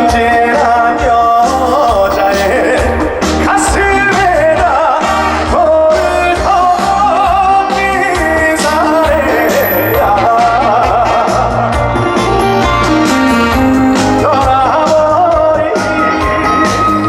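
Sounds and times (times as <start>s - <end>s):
band with bass and drums: 0.0s - 17.0s
man singing with vibrato: 0.0s - 17.0s.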